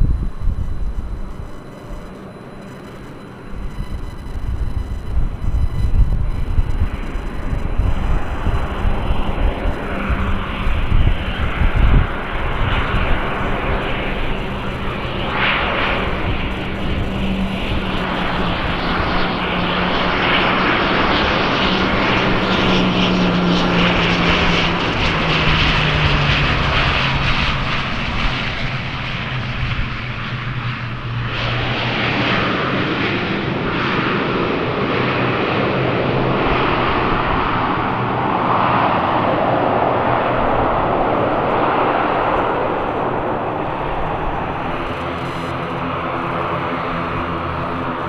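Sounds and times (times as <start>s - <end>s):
turboprop aircraft engines droning: 0.0s - 48.0s.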